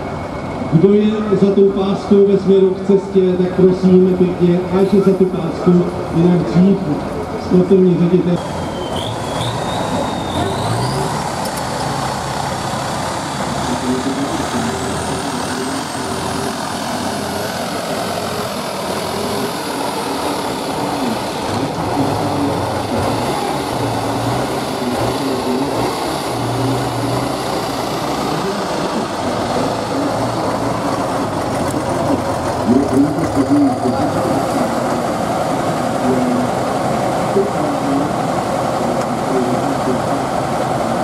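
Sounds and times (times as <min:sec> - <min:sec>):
truck engine revving: 0:00.0 - 0:41.0
crowd talking: 0:00.7 - 0:41.0.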